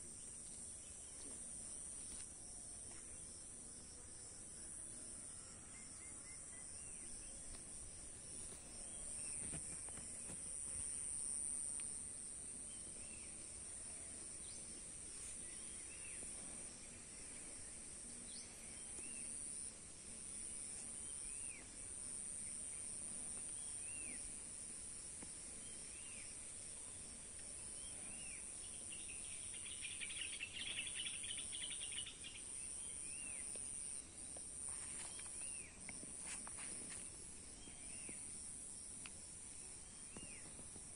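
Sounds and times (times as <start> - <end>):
high-pitched insect chorus: 0.1 - 40.9.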